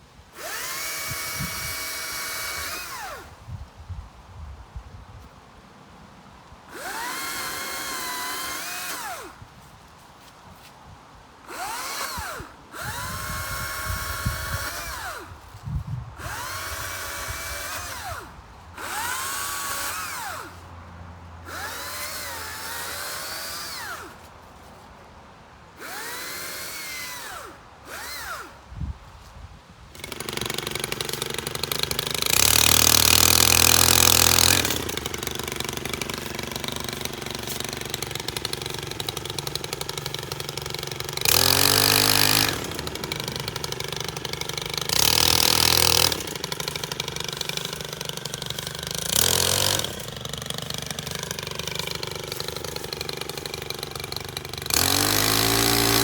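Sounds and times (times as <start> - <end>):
small gas engine revving: 0.3 - 3.5, 6.7 - 9.7, 11.4 - 24.8, 25.7 - 28.8, 29.9 - 56.0
battery chainsaw motor whine: 0.4 - 3.6, 6.7 - 9.8, 11.4 - 24.8, 25.8 - 29.3, 29.9 - 56.0.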